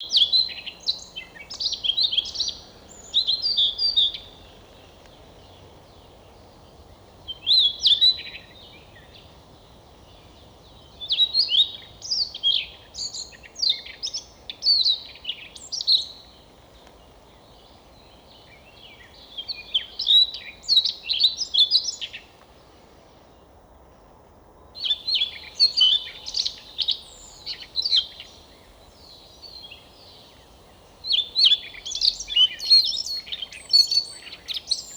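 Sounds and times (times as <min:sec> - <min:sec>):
faint background hiss: 0:00.0 - 0:34.9.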